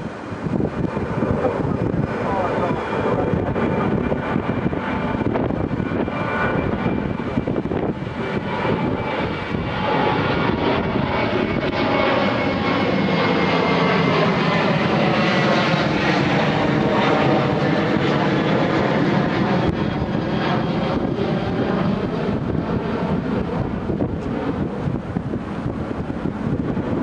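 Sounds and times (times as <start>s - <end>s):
airliner engines rushing: 0.0s - 27.0s.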